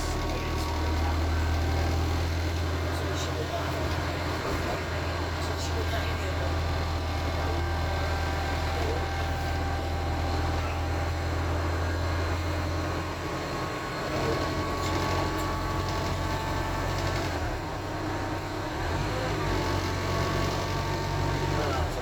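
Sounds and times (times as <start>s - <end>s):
bus engine low hum: 0.0s - 22.0s.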